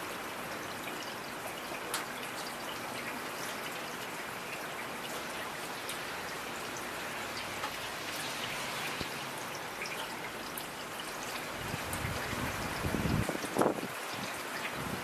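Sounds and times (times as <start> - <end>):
raindrops tapping a surface: 0.0 - 15.0
steady rain falling: 0.0 - 15.0.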